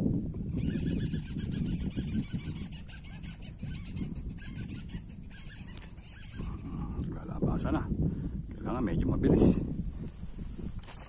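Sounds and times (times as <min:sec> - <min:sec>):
low rumbling noise: 0:00.0 - 0:10.8.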